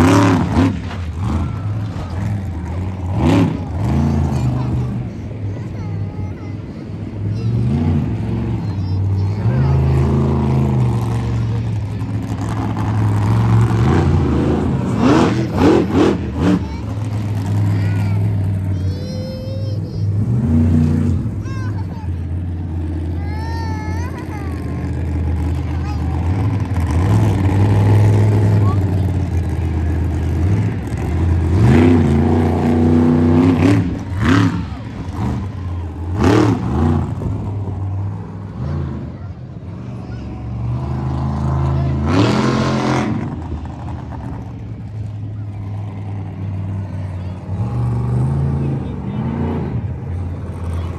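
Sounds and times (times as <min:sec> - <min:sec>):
monster truck engine running: 0:00.0 - 0:50.9.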